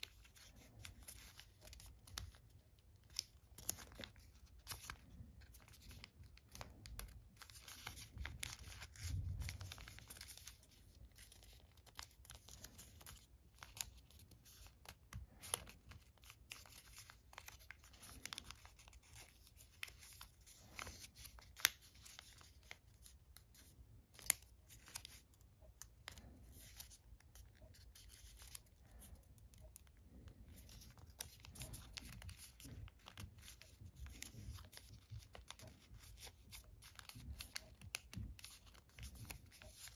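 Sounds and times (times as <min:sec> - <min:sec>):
paper creasing crackles: 0:00.0 - 0:39.9
paper rustling: 0:00.0 - 0:39.9.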